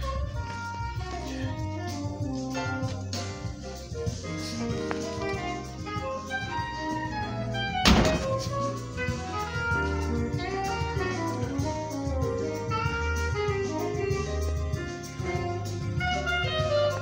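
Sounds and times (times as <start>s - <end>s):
instrumental melody: 0.0s - 17.0s
steady bass line: 0.0s - 17.0s.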